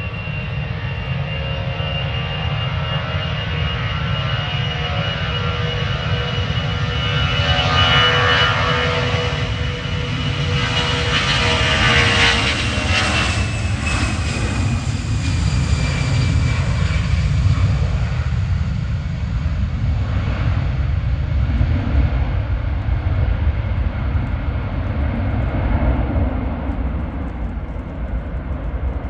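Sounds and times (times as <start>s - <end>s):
jet engine whine: 0.0s - 29.0s
jet engines rumbling at takeoff: 0.0s - 29.0s.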